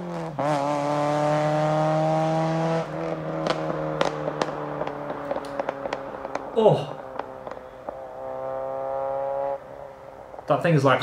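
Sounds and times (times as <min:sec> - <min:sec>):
car engine pulling away: 0:00.0 - 0:10.6
exhaust crackles: 0:00.0 - 0:11.0.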